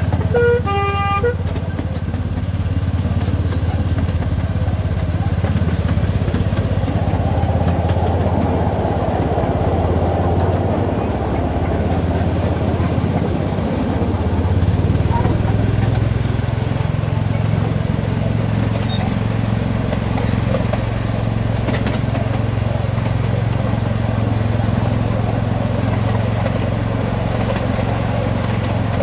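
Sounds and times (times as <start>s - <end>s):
locomotive engine running: 0.0s - 29.0s
rushing noise of moving train: 0.0s - 29.0s.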